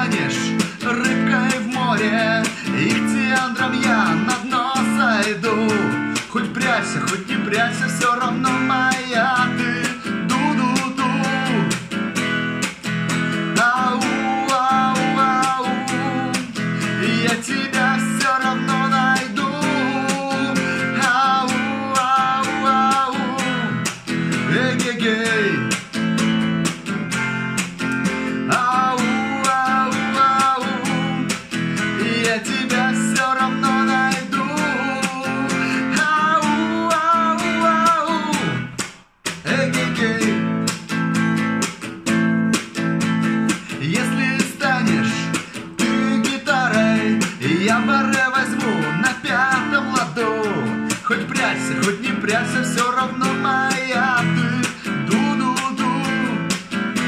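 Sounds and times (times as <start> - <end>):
man singing: 0.0 - 26.9, 28.0 - 40.9, 42.0 - 57.0
electric guitar strumming: 0.0 - 57.0.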